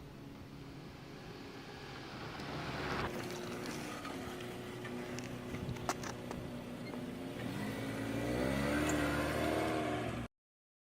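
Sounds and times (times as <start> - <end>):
car engine revving: 0.8 - 10.3.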